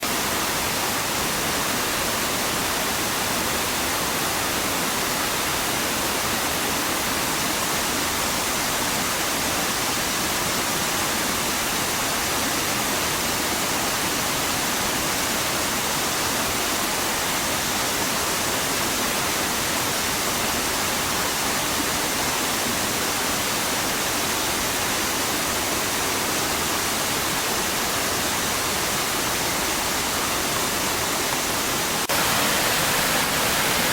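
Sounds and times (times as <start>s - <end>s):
mountain stream rushing: 0.0s - 33.9s.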